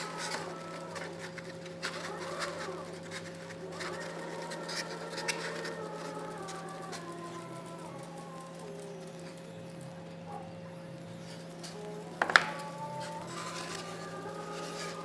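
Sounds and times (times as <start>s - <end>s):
electrical hum: 0.0s - 15.0s
stepper motors whining: 0.0s - 15.0s.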